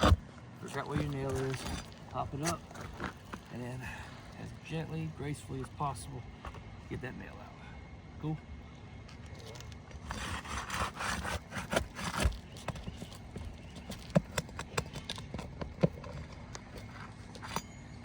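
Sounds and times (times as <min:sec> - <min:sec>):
tool scraping under shingles: 0:00.0 - 0:06.7, 0:09.1 - 0:17.8.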